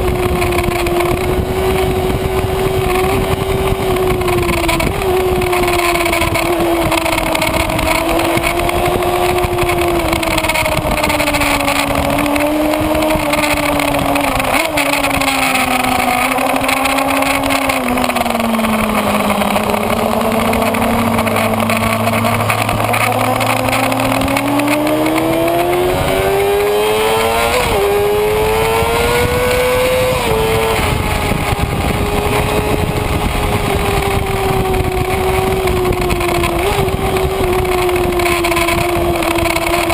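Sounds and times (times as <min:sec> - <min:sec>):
gear upshifts: 0:00.0 - 0:39.9
motorcycle engine at speed: 0:00.0 - 0:39.9
wind rush: 0:00.0 - 0:39.9.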